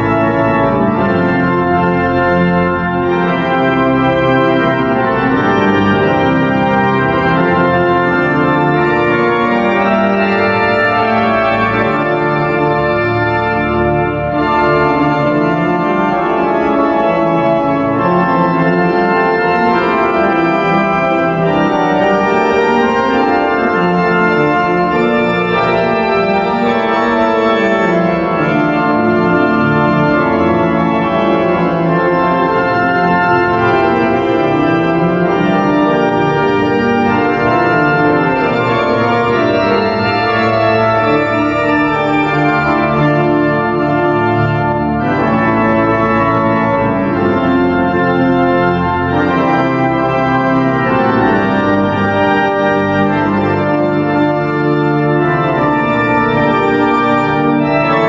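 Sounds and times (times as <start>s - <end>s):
pipe organ chords: 0.0s - 58.0s.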